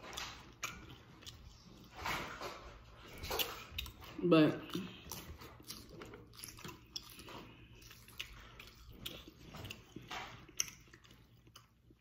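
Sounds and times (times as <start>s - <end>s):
chewing and lip smacks: 0.0s - 12.0s.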